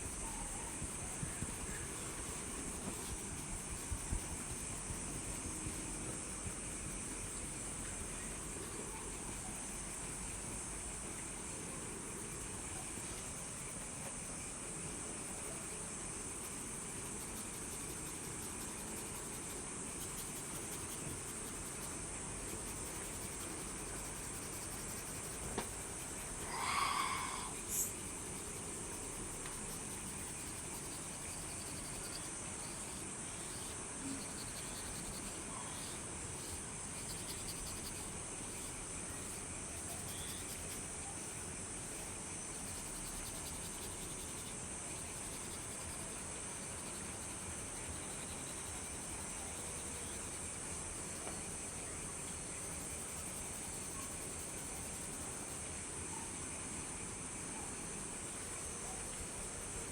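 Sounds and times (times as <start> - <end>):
crickets chirring: 0.0 - 59.9
light rain hiss: 0.0 - 59.9.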